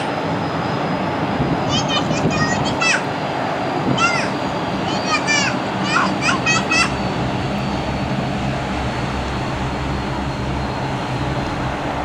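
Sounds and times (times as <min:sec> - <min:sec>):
turboprop engines humming: 0:00.0 - 0:12.0.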